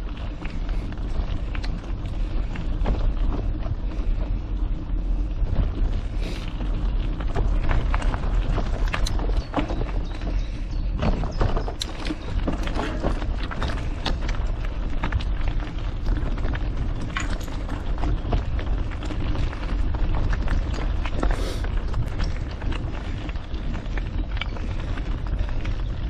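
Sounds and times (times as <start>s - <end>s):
bike rattles and clicks: 0.0s - 26.0s
tyres rumbling on trail: 0.0s - 26.0s.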